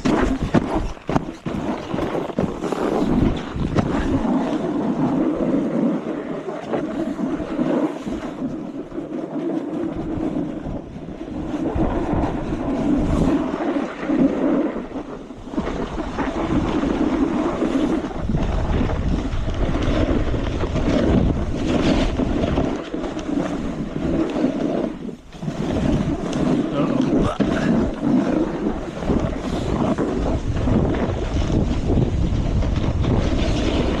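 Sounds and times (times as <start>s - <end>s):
snowboard scraping over snow: 0.0s - 34.0s
wind buffeting microphone: 0.0s - 34.0s.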